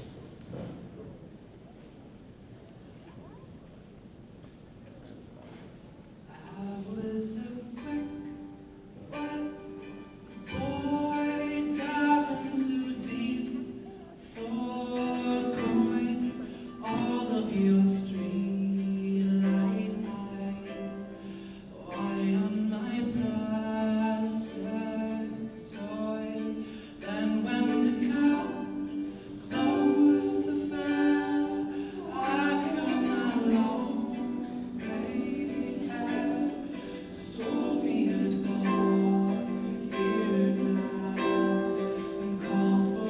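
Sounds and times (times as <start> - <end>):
person singing: 6.3 - 43.0.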